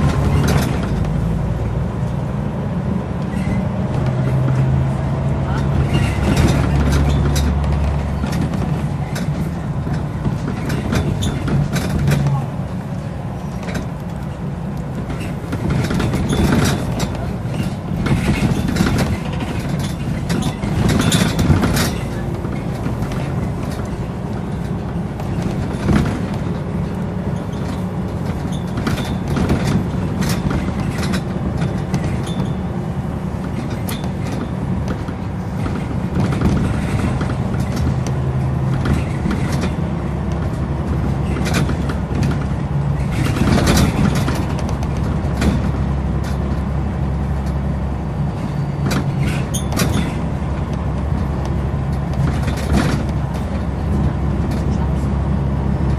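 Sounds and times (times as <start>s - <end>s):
rattles and knocks: 0.0s - 1.6s, 3.3s - 55.9s
bus diesel engine running: 0.0s - 55.9s.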